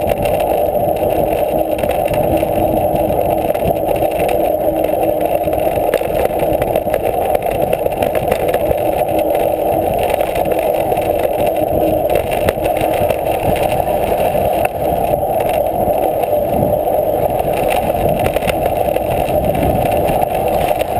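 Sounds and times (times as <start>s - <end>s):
bike tyres rolling over dirt: 0.0s - 20.9s.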